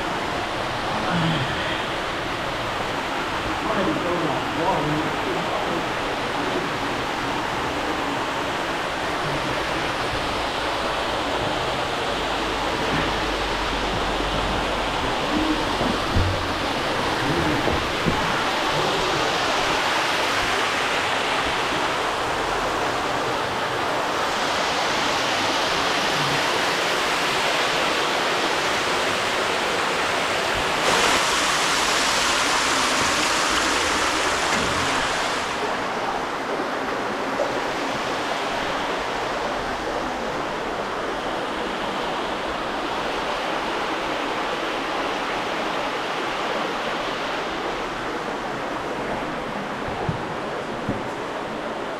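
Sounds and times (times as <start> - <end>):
water rushing in cave: 0.0 - 51.9.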